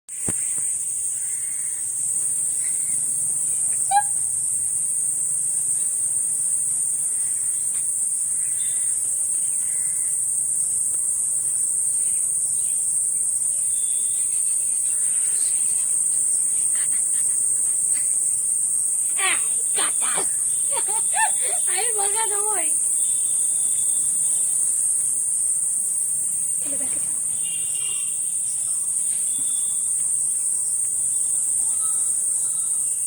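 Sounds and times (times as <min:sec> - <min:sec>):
insects trilling: 0:00.1 - 0:33.0.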